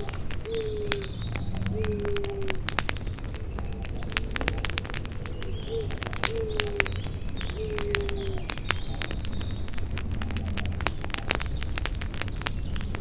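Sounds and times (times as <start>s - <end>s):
bird cooing: 0.0s - 11.6s
campfire crackling: 0.0s - 13.0s.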